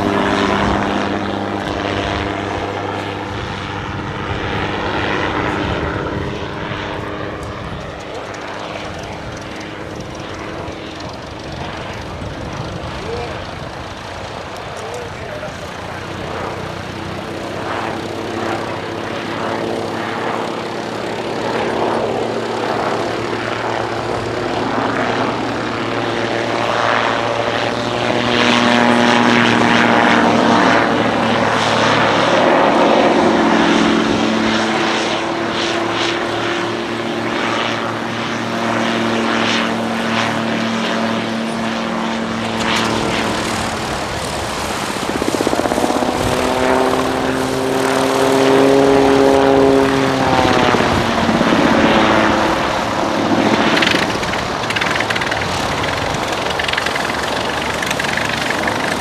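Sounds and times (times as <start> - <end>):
autogyro engine and propeller droning: 0.0 - 59.0.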